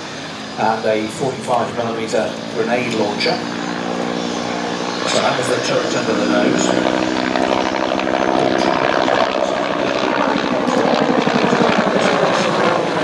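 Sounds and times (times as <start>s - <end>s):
helicopter engine tone: 0.0s - 13.0s
helicopter rotor chopping: 0.0s - 13.0s.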